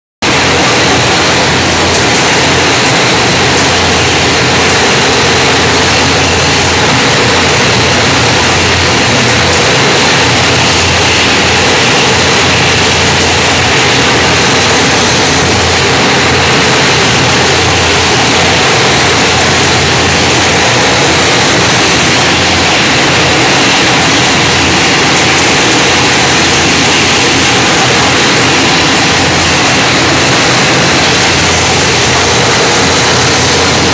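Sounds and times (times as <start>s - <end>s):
bottling machine din: 0.2s - 33.9s.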